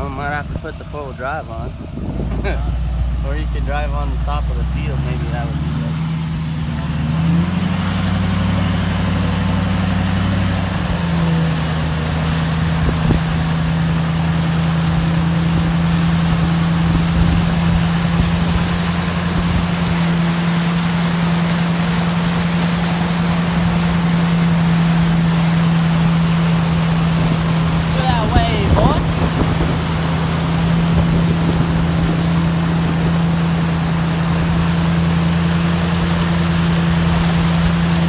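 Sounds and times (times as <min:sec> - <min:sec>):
rumbling road and body noise: 0:00.0 - 0:38.0
vehicle engine running: 0:00.0 - 0:38.0.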